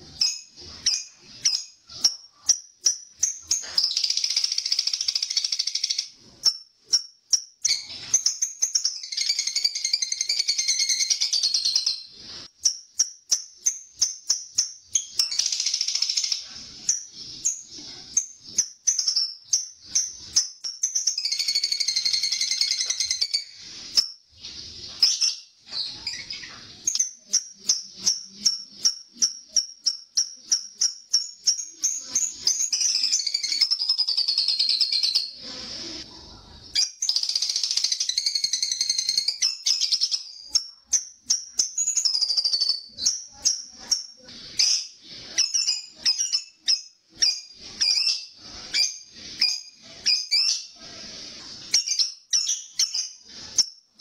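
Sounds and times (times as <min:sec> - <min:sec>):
lovebird chattering: 0:00.0 - 0:36.0, 0:36.7 - 0:54.0.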